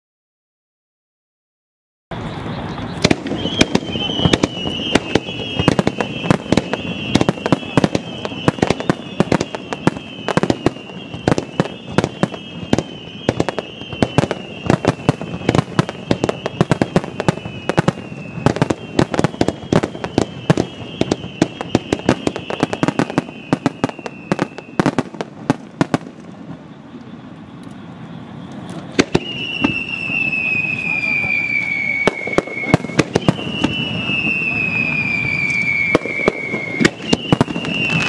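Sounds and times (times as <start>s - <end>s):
high falling whistle: 2.1s - 25.0s, 26.6s - 38.0s
firework shells bursting: 2.9s - 26.5s, 28.5s - 38.0s.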